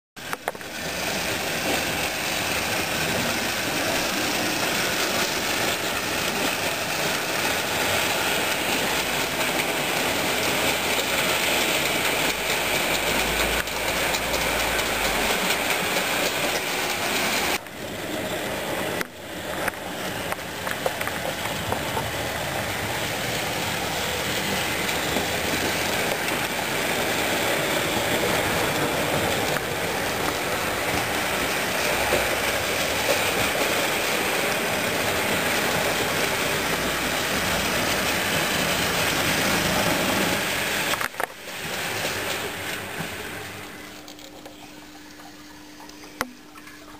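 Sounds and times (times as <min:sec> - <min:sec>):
model train motors whirring: 0:00.2 - 0:46.2.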